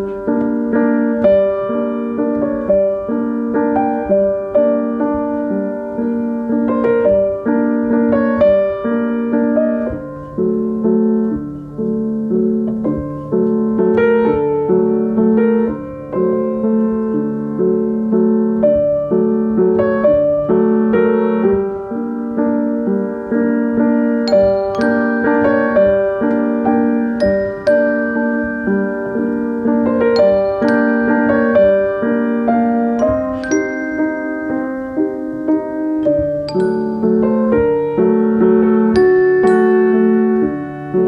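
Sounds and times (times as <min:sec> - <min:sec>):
gentle solo piano piece: 0:00.0 - 0:41.0.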